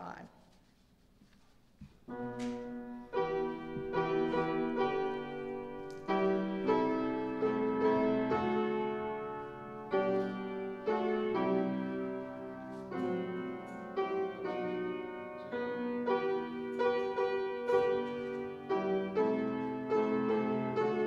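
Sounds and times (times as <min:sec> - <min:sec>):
piano playing slow chords: 0:02.1 - 0:21.0.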